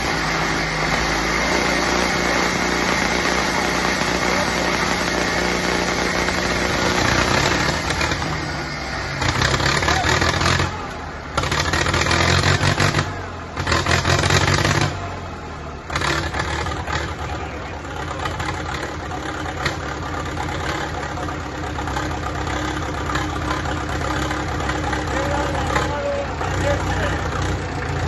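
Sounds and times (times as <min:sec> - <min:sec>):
tractor engine revving: 0:00.0 - 0:28.0.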